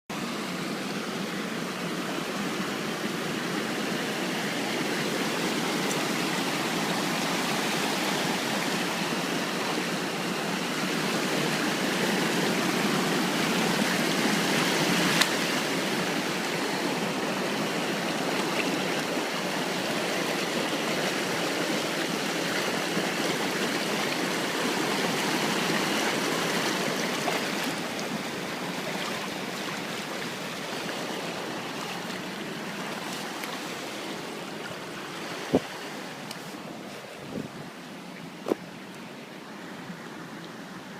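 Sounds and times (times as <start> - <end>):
creek water rushing: 0.1 - 40.9.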